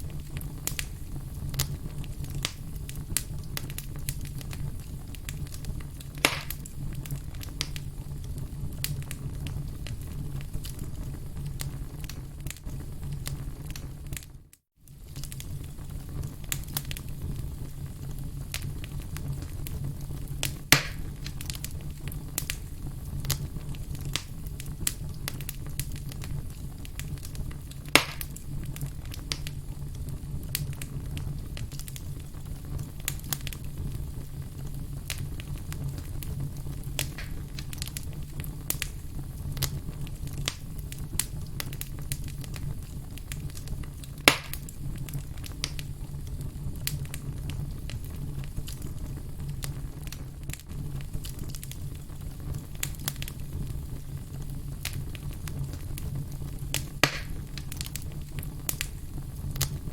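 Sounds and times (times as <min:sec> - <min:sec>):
fire pops: 0:00.0 - 0:59.9
wood fire crackling: 0:00.0 - 0:59.9.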